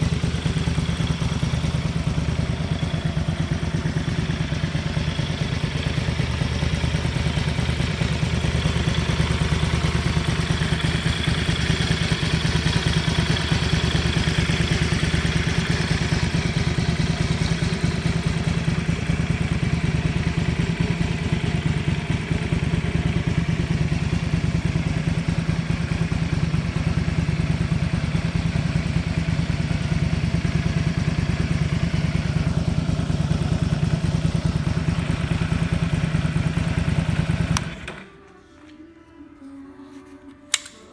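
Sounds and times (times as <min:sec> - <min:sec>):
motorcycle engine idling: 0:00.0 - 0:38.1.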